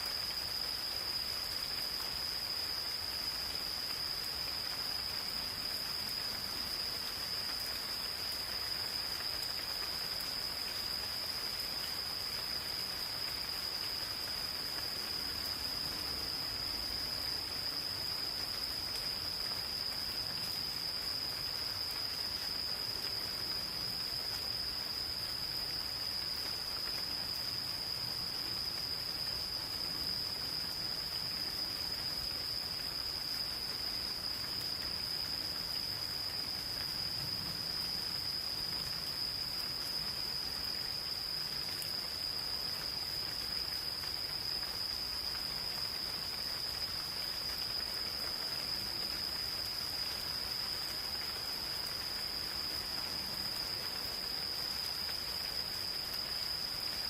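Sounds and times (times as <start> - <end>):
gentle rain pattering: 0.0 - 57.0
insects trilling: 0.0 - 57.0.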